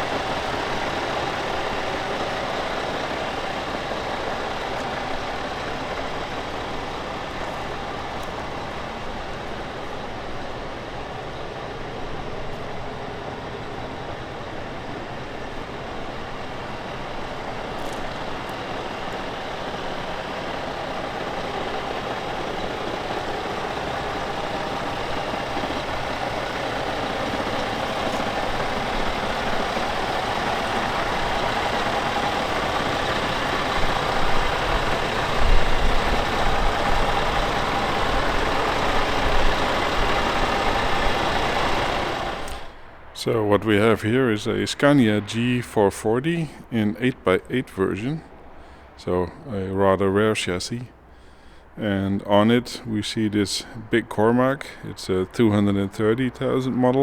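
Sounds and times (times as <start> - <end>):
deep engine rumbles: 0.0 - 57.0
truck diesel engine running: 0.0 - 57.0.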